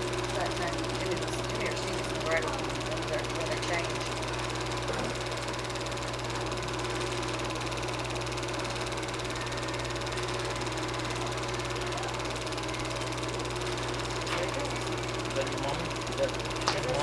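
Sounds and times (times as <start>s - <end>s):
film projector motor whirring: 0.0s - 17.0s.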